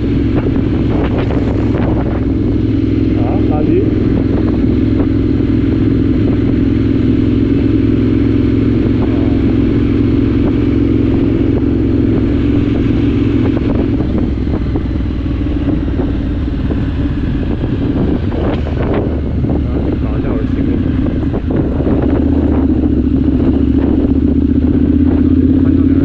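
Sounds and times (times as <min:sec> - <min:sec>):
motorcycle engine cruising: 0:00.0 - 0:26.0
road noise: 0:00.0 - 0:26.0
wind noise: 0:00.0 - 0:26.0.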